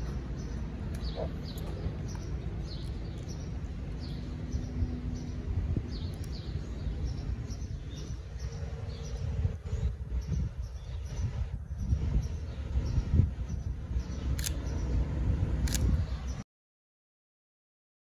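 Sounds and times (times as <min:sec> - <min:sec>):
small birds chirping: 0:00.0 - 0:15.1
low outdoor rumble: 0:00.0 - 0:16.4.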